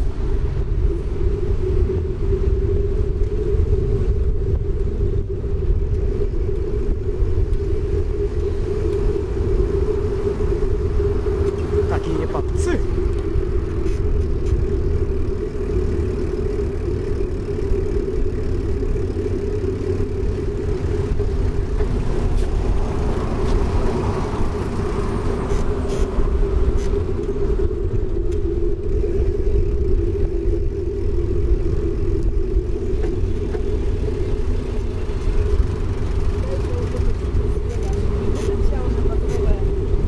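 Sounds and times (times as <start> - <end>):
bicycle tyre noise: 0.0 - 40.0
constant hum: 0.0 - 40.0
wind on microphone: 0.0 - 40.0.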